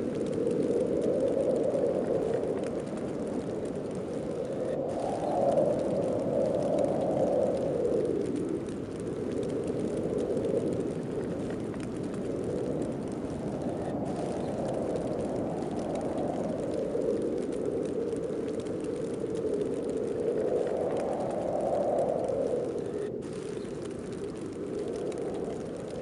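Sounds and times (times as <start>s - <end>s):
howling snowstorm wind: 0.0s - 26.0s.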